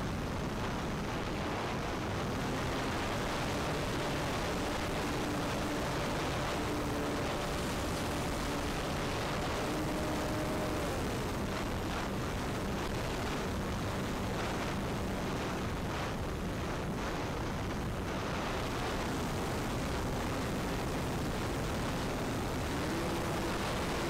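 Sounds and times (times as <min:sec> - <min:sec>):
wind rushing over camera: 0:00.0 - 0:24.0
electric motor and propeller hum: 0:01.1 - 0:16.1, 0:18.4 - 0:24.0.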